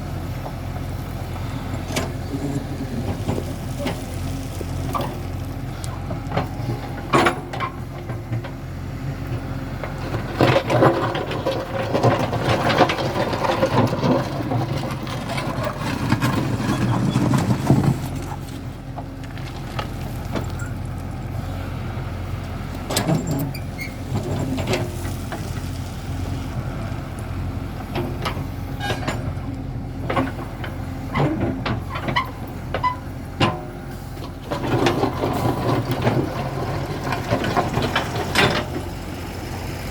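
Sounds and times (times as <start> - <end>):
diesel engine running under load: 0.0 - 39.9
bucket clanking and scraping: 1.5 - 8.6, 9.8 - 20.8, 22.8 - 26.4, 27.9 - 39.9.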